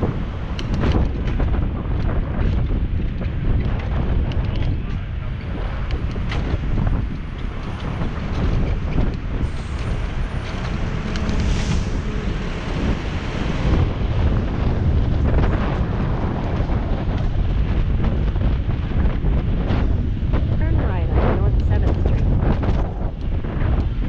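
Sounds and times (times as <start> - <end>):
city traffic noise: 0.0 - 24.0
wind buffeting microphone: 0.0 - 24.0.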